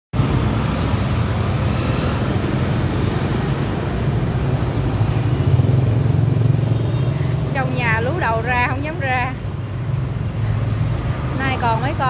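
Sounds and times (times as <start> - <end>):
street traffic hum: 0.1 - 12.0.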